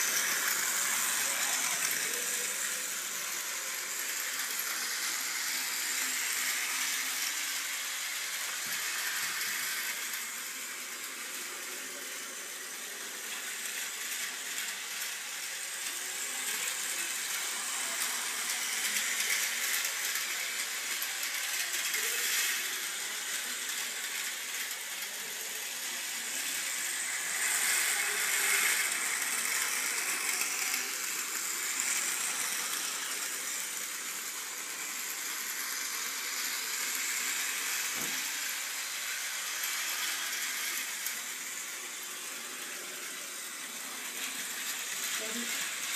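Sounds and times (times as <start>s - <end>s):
toy train rattling on track: 0.0s - 45.9s.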